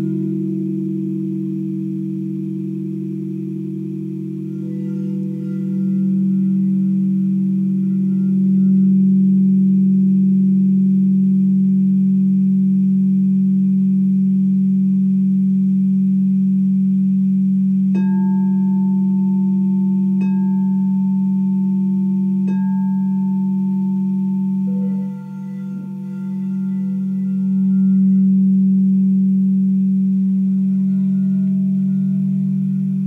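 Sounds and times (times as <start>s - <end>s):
deep singing bowl ringing: 0.0s - 33.0s
small bowl struck with mallet: 0.0s - 33.0s.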